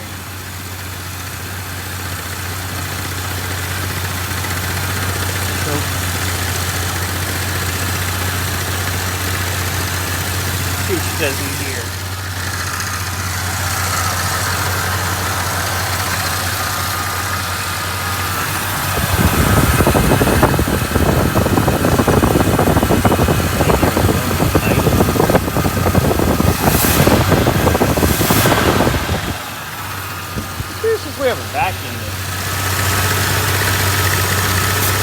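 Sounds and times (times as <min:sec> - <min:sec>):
car engine idling rough: 0:00.0 - 0:35.0.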